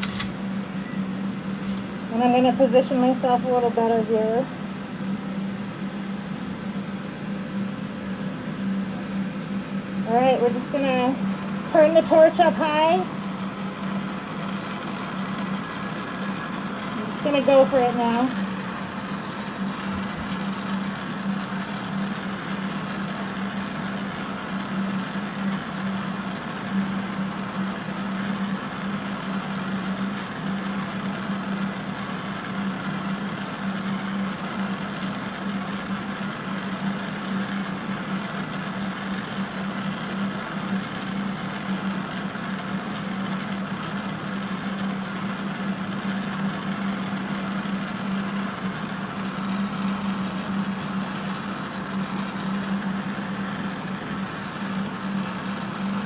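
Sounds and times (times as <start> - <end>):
extraction fans droning: 0.0 - 56.0.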